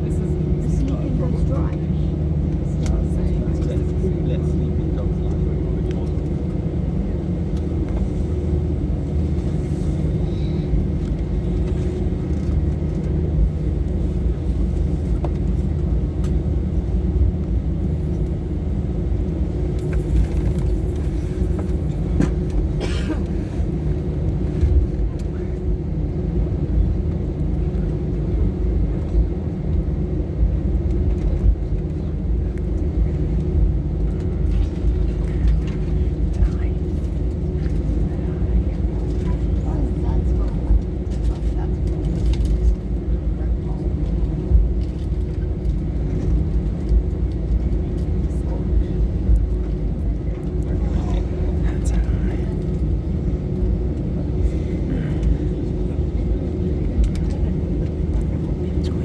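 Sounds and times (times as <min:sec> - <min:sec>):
airplane cabin rumble and hum: 0:00.0 - 0:59.0
droning aircraft engines: 0:00.0 - 0:59.0.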